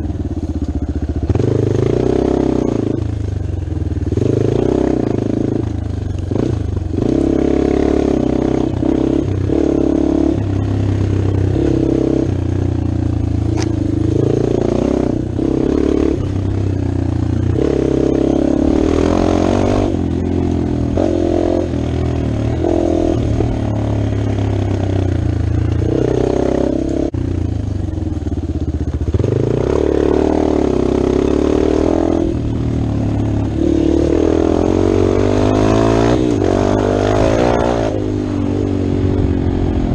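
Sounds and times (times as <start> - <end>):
dirt bike engine revving: 1.2 - 3.2, 4.1 - 27.2, 27.8 - 39.9.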